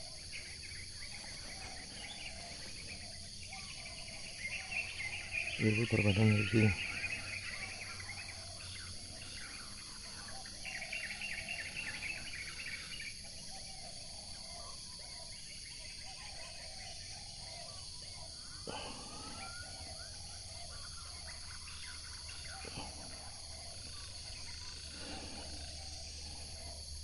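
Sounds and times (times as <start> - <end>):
birds chattering and calling: 0.0 - 27.0
insects buzzing: 0.0 - 27.0.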